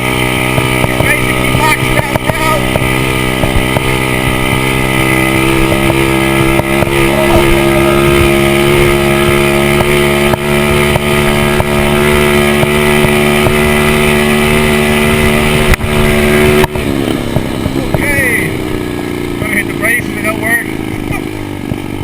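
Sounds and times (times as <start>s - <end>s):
pit bike engine at high revs: 0.0s - 22.0s.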